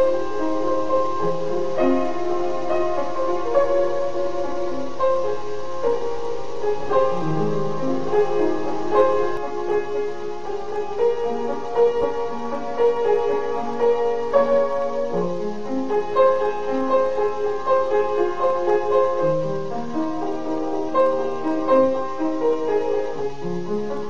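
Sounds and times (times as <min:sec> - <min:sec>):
instrumental music: 0:00.0 - 0:24.0.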